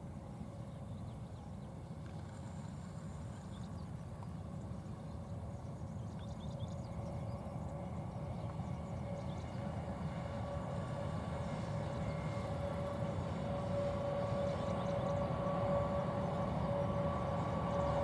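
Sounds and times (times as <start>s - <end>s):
locomotive high whine: 0.0s - 18.0s.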